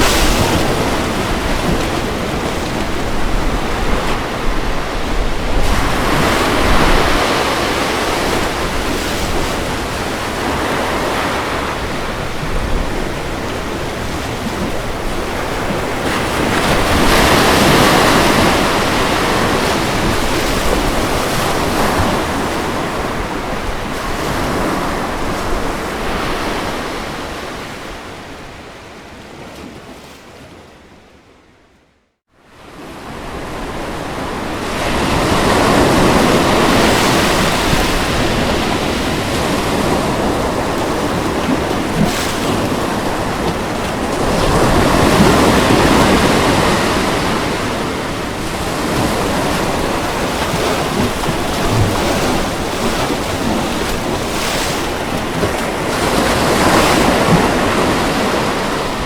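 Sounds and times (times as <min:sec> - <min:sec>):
ocean waves washing onto beach: 0:00.0 - 0:30.8, 0:32.5 - 0:59.0.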